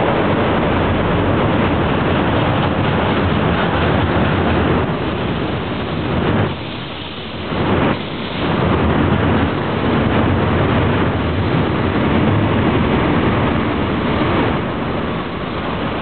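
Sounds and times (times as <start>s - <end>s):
freight wagons rolling on rails: 0.0s - 16.0s
train rumbling: 0.0s - 16.0s.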